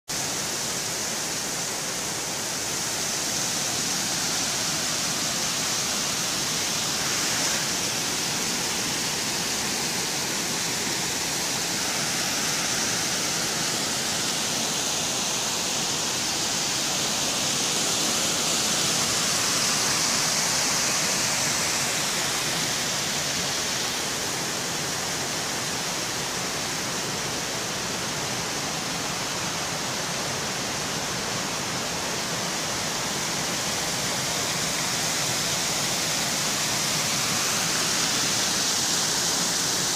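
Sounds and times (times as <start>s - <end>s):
river water rushing over rocks: 0.1s - 39.9s.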